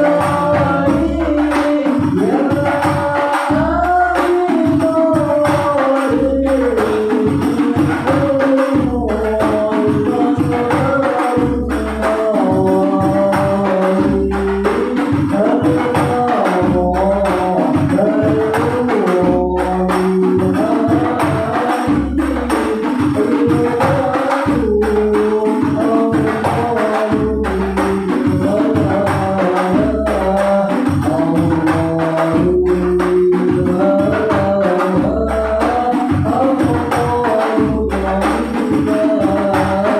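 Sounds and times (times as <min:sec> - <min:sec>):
jingling frame drums: 0:00.0 - 0:39.9.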